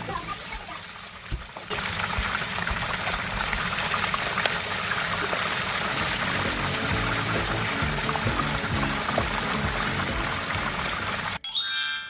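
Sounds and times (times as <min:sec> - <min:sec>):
chicken sizzling in hot oil: 0:00.0 - 0:11.4.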